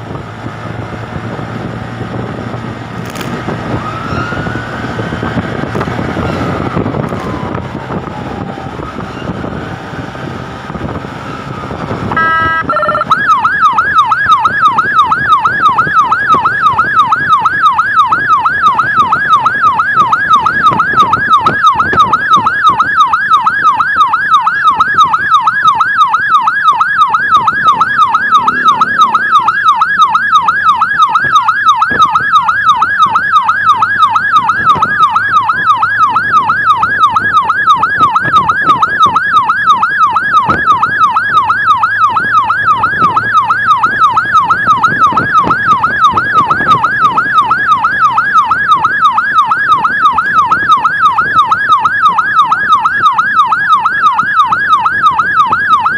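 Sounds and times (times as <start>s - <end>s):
faint vehicle road noise: 0.0s - 55.9s
siren yelping: 3.4s - 55.9s.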